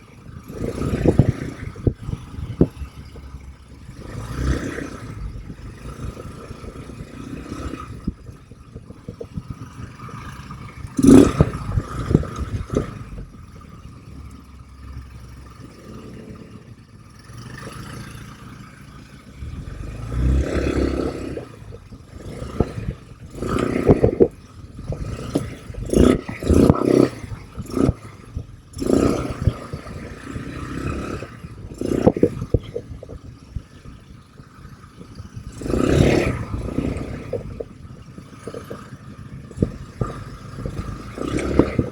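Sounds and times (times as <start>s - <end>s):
atv engine running: 0.0s - 41.9s
loud rumbling bursts and clatter: 0.0s - 41.9s.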